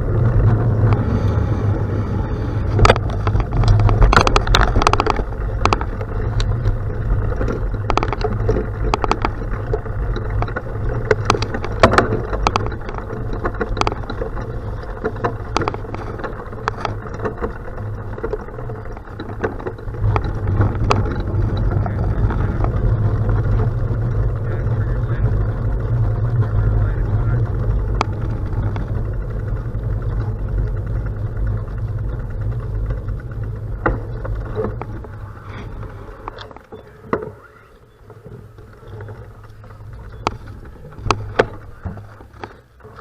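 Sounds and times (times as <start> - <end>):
bicycle tyres on gravel: 0.0 - 43.0.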